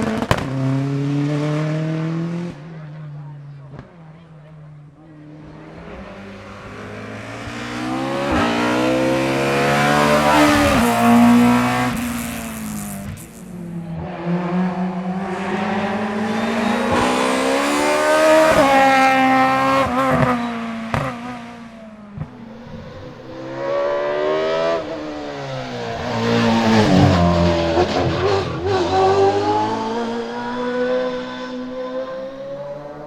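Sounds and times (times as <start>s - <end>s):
race car engine revving: 5.2s - 33.0s.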